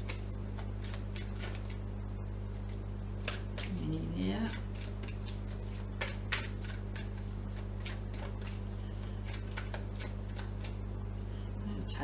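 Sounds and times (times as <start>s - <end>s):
cards being shuffled: 0.0s - 1.8s, 2.6s - 10.8s
low electrical hum: 0.0s - 12.0s.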